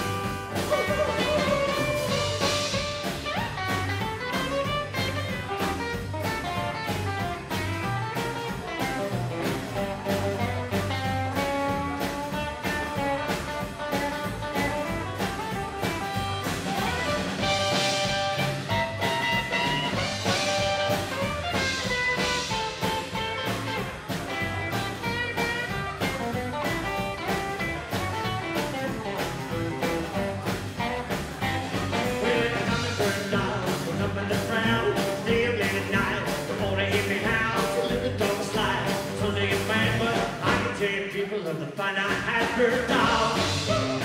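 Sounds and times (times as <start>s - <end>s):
rockabilly band playing live: 0.0s - 44.0s.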